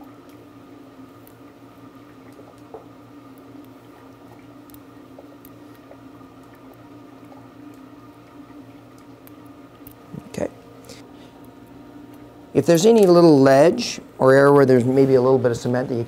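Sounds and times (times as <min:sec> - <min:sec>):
low equipment hum: 0:00.0 - 0:16.0.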